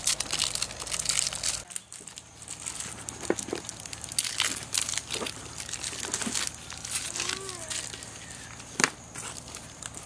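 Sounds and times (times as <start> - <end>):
wrapper crinkling: 0.0 - 10.0.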